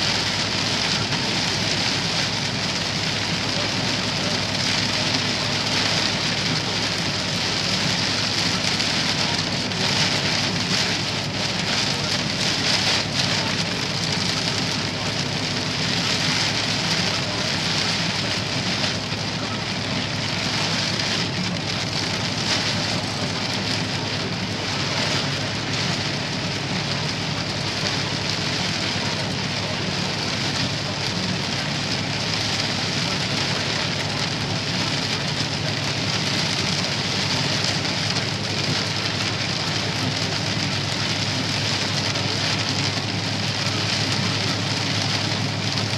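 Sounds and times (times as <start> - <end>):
heavy rain drumming on vehicle roof: 0.0 - 45.9
low hum of moving vehicle: 0.0 - 45.9.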